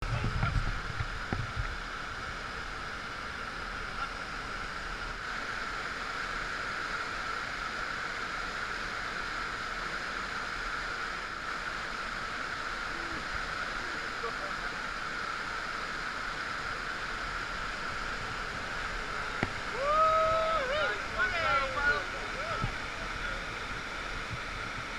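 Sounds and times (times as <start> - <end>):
river rushing: 0.0 - 24.9.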